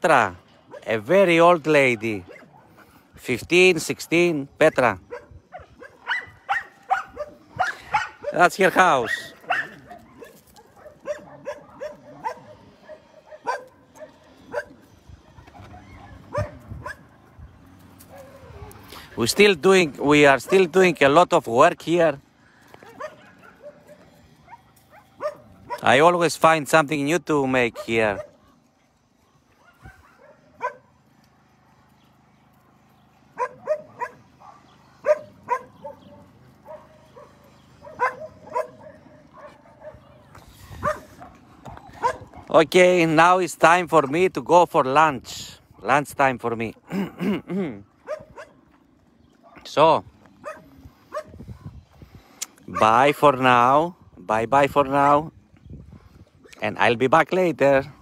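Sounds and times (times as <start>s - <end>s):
dogs barking and yipping: 0.0s - 53.9s, 54.7s - 58.0s.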